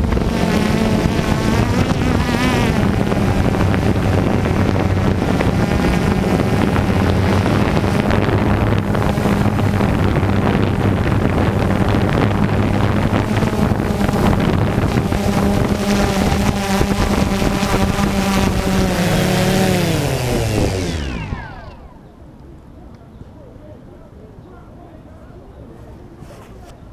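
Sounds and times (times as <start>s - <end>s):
drone propellers buzzing: 0.0s - 22.2s.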